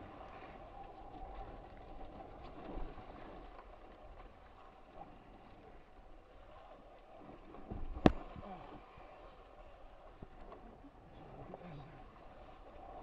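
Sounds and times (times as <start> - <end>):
water sloshing along hull: 0.0 - 13.0.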